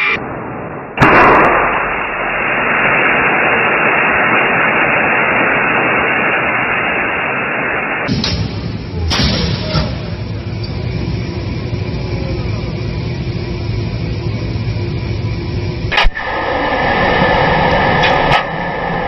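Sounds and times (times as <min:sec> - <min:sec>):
radiation monitor static hiss: 0:00.0 - 0:19.0.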